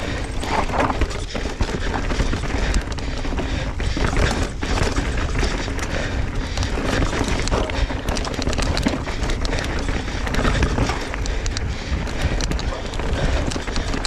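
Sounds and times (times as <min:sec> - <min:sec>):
bike rattling and knocking: 0:00.0 - 0:14.0
tyre and wind noise: 0:00.0 - 0:14.0.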